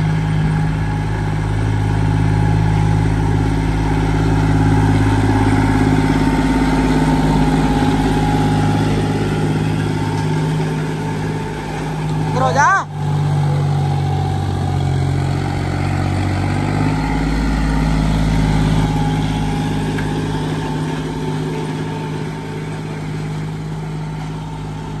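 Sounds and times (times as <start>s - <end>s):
tractor diesel engine rumbling: 0.0s - 25.0s.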